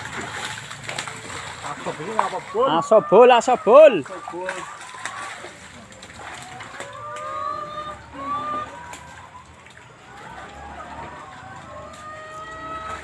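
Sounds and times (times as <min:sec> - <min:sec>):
pond water sloshing: 0:00.0 - 0:13.0.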